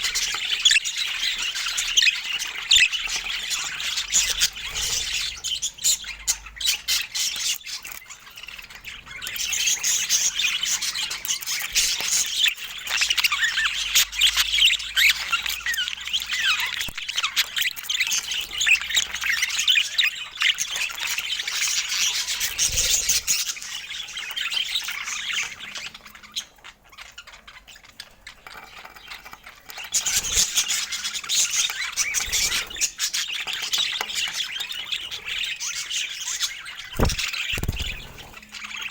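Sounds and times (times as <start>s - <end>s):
budgies chirping and squawking: 0.0s - 38.9s.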